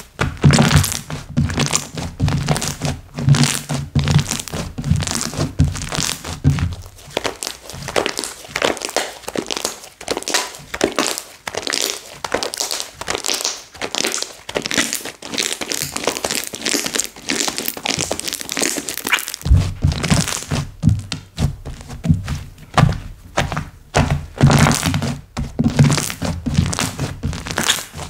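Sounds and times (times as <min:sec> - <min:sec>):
sticky slime crackling and popping: 0:00.0 - 0:28.0.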